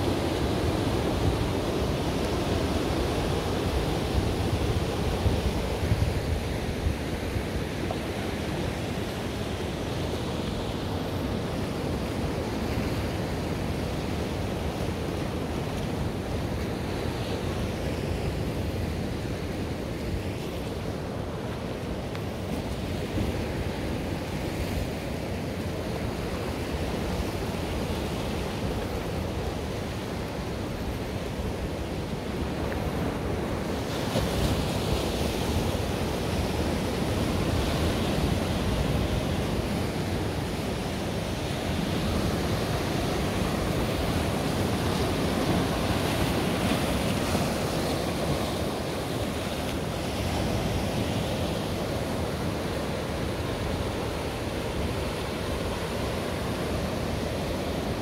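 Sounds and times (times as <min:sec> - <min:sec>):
sea waves breaking: 0:00.0 - 0:58.0
wind rumbling on microphone: 0:00.0 - 0:58.0.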